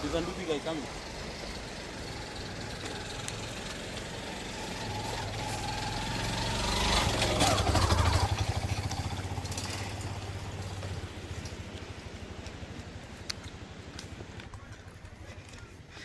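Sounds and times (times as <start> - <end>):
small motorcycle engine passing: 0.0 - 13.2.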